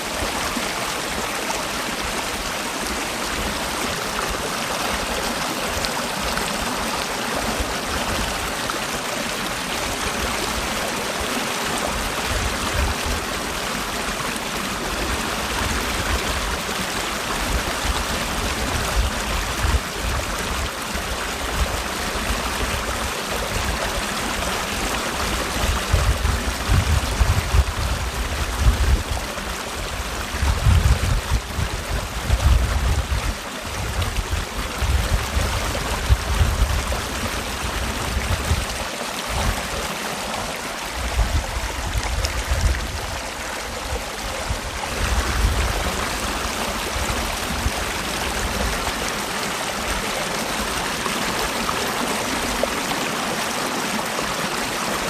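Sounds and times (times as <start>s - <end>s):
stream rushing and trickling: 0.0s - 55.0s.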